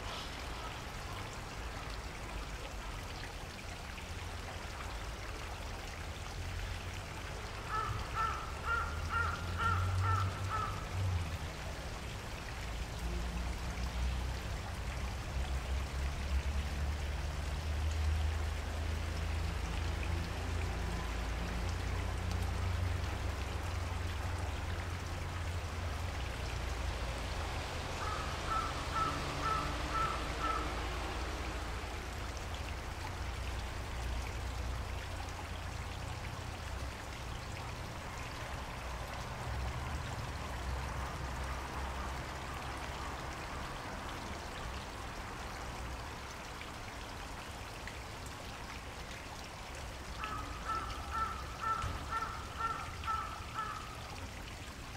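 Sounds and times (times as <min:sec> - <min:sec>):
water rushing: 0:00.0 - 0:54.9.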